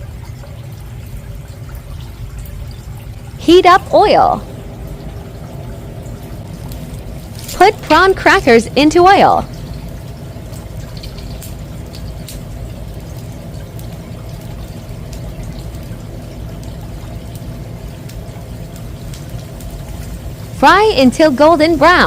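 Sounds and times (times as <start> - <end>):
crackers sizzling in hot oil: 0.0 - 22.0
steady low hum: 0.0 - 22.0.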